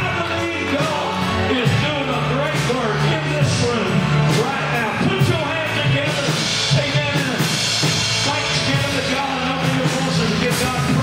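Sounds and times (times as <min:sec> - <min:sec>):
drum kit playing: 0:00.0 - 0:11.0.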